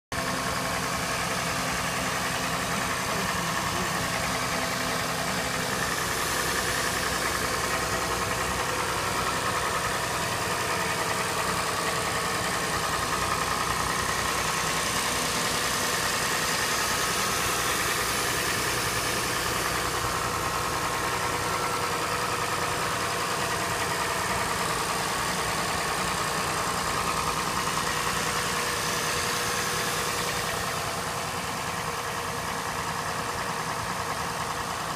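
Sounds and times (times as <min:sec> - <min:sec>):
car engine idling: 0:00.1 - 0:34.9
engine knocking: 0:00.1 - 0:34.9.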